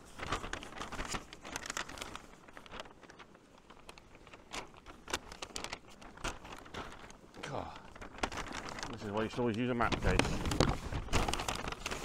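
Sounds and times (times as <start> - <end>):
paper map crinkling and rustling: 0.0 - 12.0.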